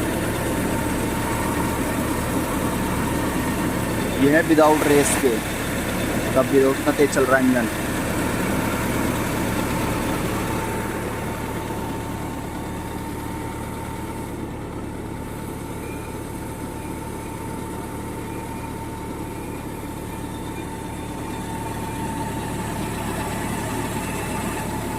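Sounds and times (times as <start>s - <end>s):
thin steady whine: 0.0s - 24.9s
truck engine idling: 0.0s - 24.9s.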